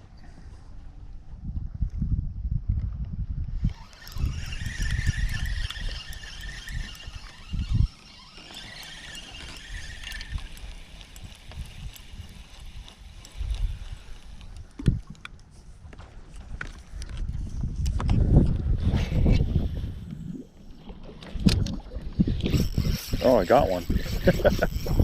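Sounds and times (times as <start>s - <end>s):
wind buffeting microphone: 0.0s - 20.5s, 21.3s - 25.0s.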